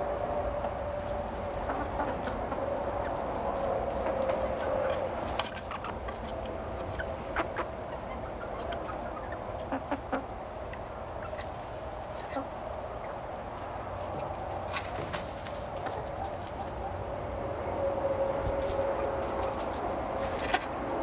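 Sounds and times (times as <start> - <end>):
hens clucking quietly: 0.0 - 21.0.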